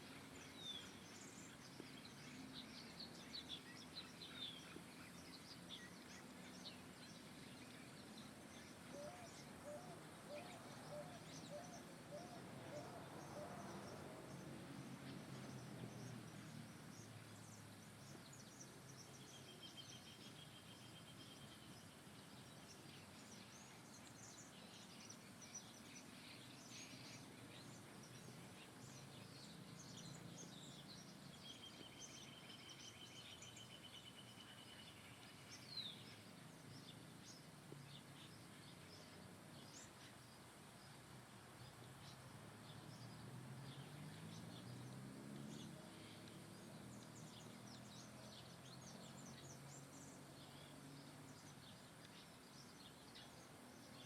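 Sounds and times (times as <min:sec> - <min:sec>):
faint songbird chirps: 0:00.0 - 0:54.0.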